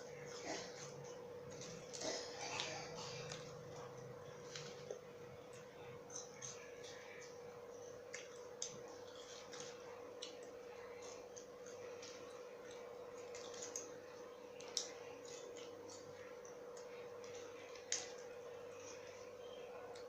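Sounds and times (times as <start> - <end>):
person eating crunchy fries: 0.0 - 20.0.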